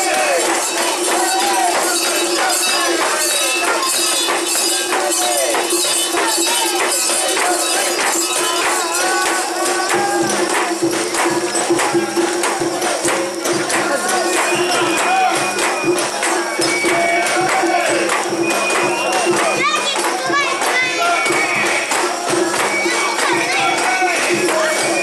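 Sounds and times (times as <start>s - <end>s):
crowd calling and chanting: 0.0s - 25.0s
rhythmic metallic jingling: 0.0s - 25.0s.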